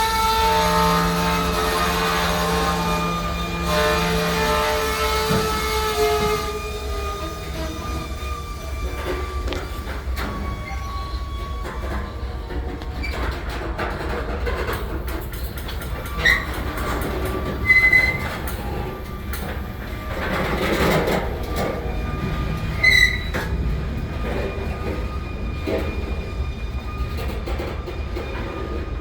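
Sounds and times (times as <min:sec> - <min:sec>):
freight train rumbling: 0:00.0 - 0:29.0
wheels squealing on rail: 0:00.0 - 0:29.0.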